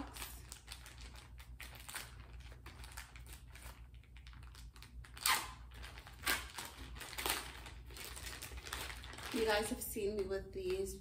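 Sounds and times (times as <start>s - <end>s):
packaging crinkling and clicking: 0.0s - 9.7s
packaging rustle: 0.0s - 10.8s.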